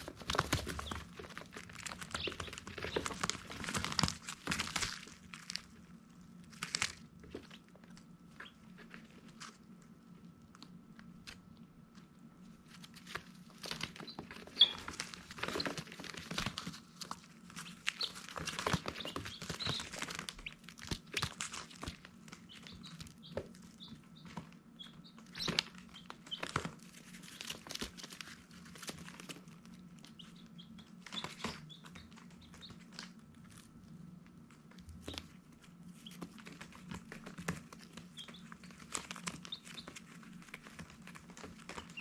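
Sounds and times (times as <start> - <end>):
rustling and tapping: 0.0 - 5.8, 10.5 - 42.0
baby chicks peeping: 0.0 - 42.0.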